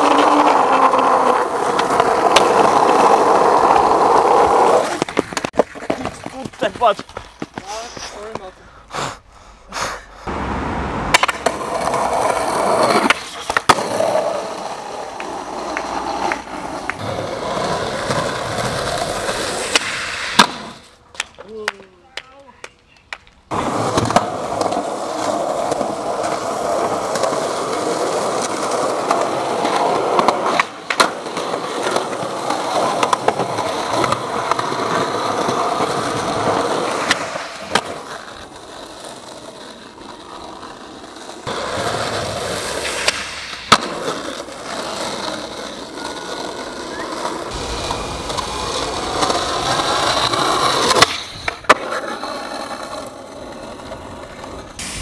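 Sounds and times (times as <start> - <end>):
skateboard clacking on ground: 0.0 - 8.5, 11.1 - 54.9
skateboard wheels rolling on concrete: 0.0 - 55.0.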